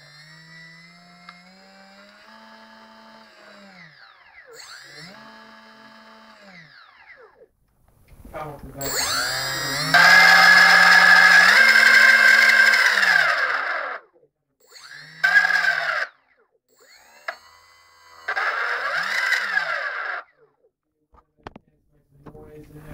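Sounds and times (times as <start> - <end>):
electric motor whining: 0.0 - 7.5, 8.8 - 20.4.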